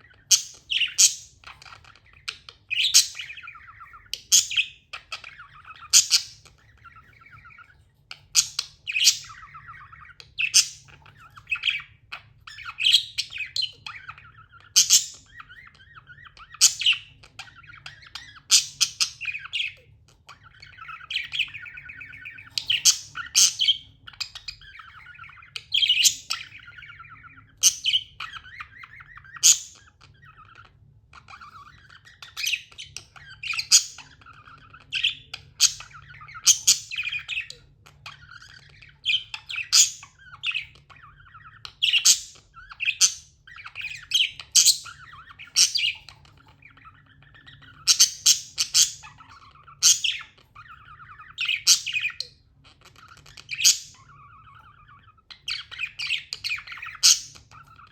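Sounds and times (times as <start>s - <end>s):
budgerigar sharp chirps: 0.0s - 57.9s
budgerigar warbling chatter: 0.0s - 57.9s.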